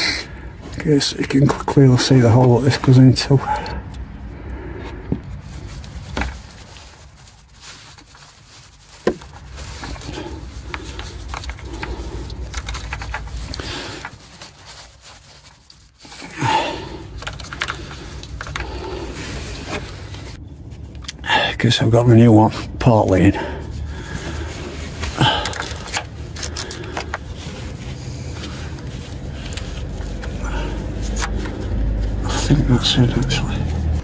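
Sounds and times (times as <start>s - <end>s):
plastic part scraping and rustling: 4.8s - 21.2s, 22.8s - 34.0s.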